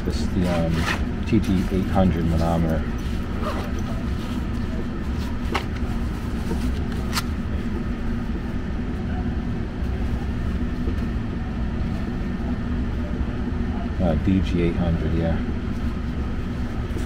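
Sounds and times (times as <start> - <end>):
furnace blower humming: 0.0 - 17.0.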